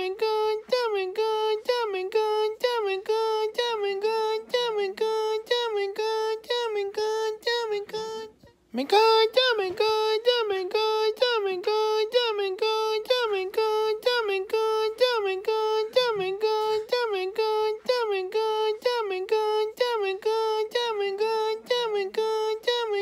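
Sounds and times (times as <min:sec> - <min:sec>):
high singing-like voice repeating: 0:00.0 - 0:23.0.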